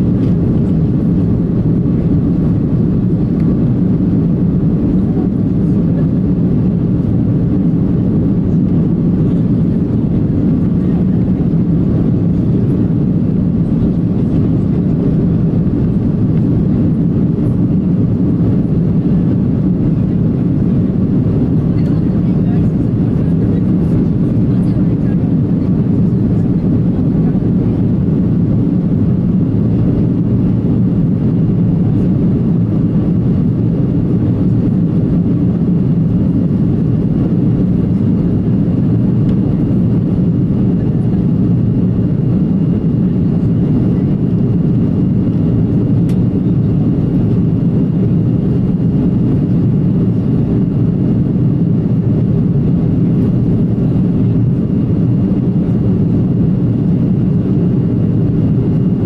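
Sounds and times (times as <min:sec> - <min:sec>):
jet engine low rumble: 0:00.0 - 0:59.0.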